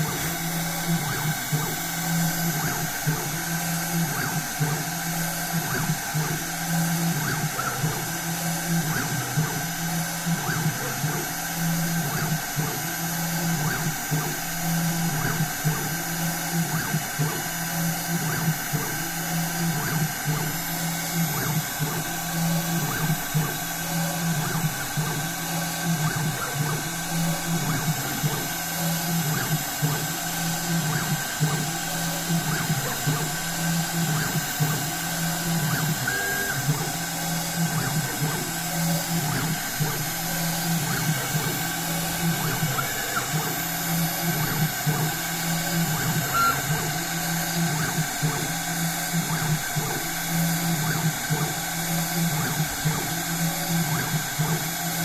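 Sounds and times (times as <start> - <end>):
machine spindle whining: 0.0 - 55.0
stepper motor hum: 0.0 - 55.0.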